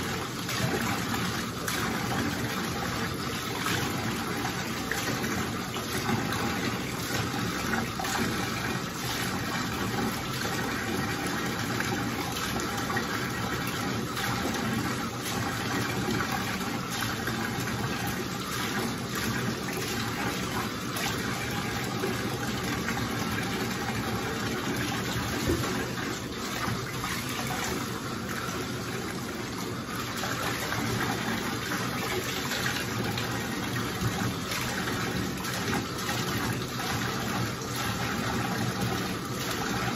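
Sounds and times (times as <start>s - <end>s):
shower water splashing in bathtub: 0.0s - 39.9s.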